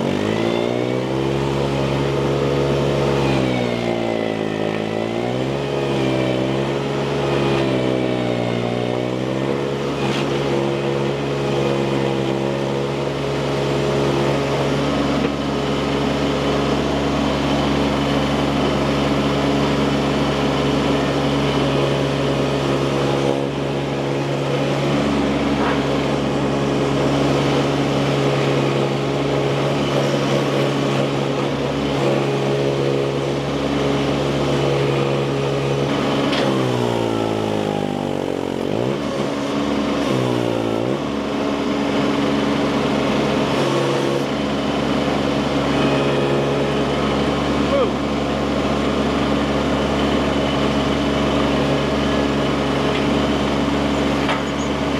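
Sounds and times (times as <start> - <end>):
skid steer engine running: 0.0 - 54.9.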